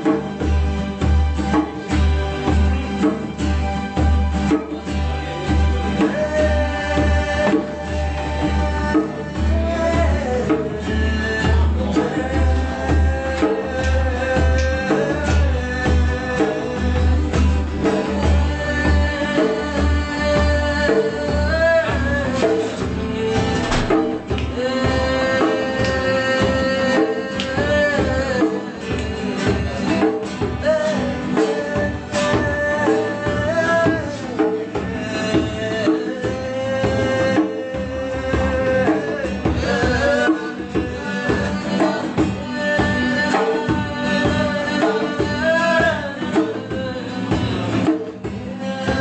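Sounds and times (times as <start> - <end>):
conga drumming: 0.0 - 49.0
guitars and keyboard jam: 0.0 - 49.0
live band playing: 0.0 - 49.0
voices singing along: 1.7 - 49.0.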